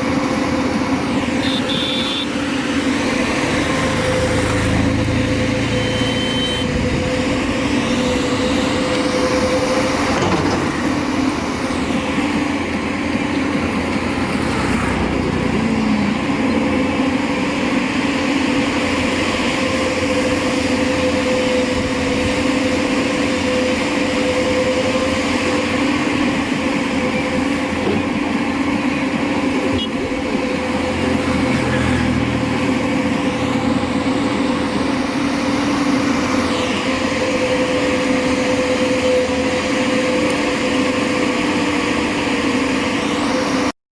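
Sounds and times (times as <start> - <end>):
backhoe diesel engine running: 0.0 - 43.7.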